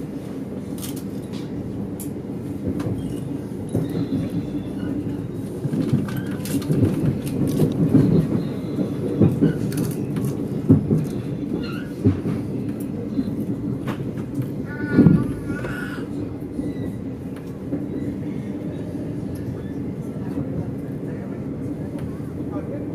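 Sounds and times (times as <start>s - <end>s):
train wheels rumbling on rail: 0.0s - 22.9s.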